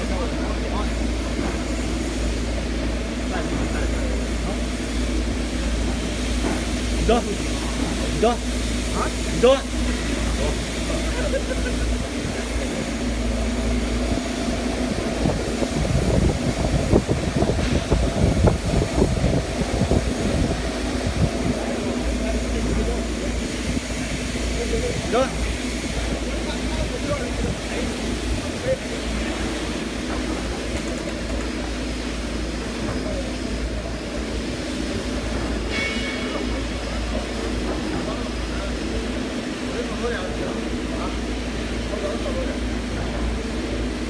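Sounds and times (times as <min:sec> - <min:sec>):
veneer lathe humming and rumbling: 0:00.0 - 0:44.0.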